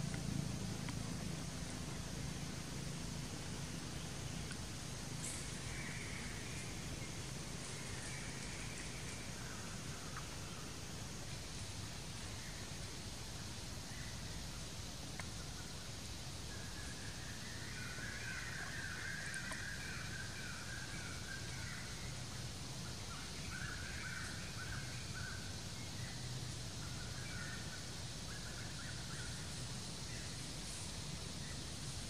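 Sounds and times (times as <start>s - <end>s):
steady outdoor hiss: 0.0s - 32.0s.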